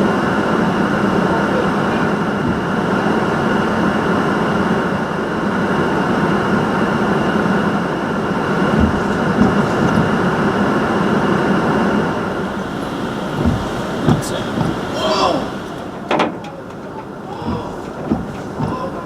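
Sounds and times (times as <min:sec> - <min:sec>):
high wind whistle: 0:00.0 - 0:19.0
strong wind rushing: 0:00.0 - 0:19.0.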